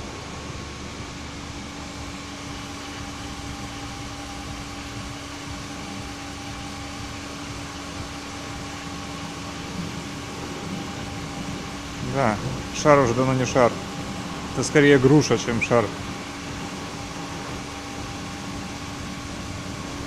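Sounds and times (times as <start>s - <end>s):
fan motor humming: 0.0s - 20.0s.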